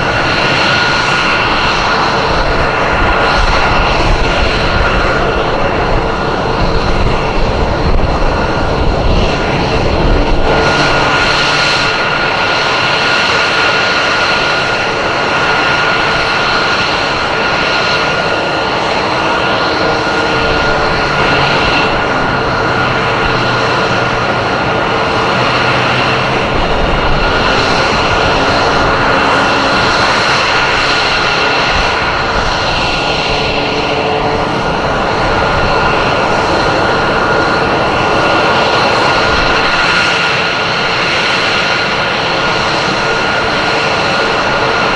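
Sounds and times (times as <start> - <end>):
aircraft engine noise: 0.0 - 44.9
constant high whine: 0.0 - 44.9.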